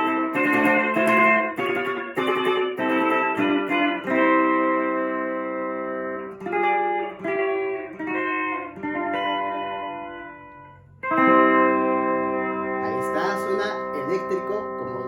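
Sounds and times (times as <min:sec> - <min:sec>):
electric ukulele chords: 0:00.0 - 0:15.0.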